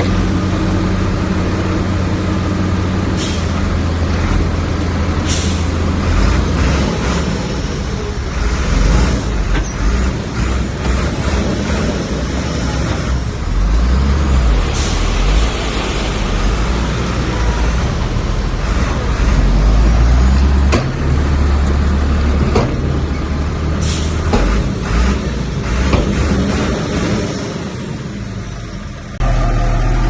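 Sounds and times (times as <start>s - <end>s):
bulldozer diesel engine: 0.0s - 30.0s.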